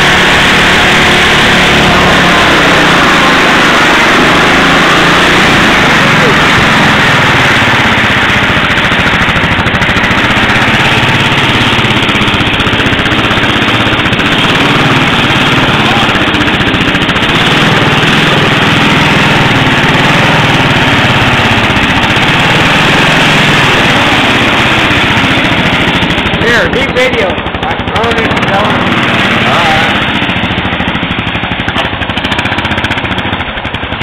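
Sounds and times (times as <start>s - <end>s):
lawn mower engine running: 0.0s - 34.0s.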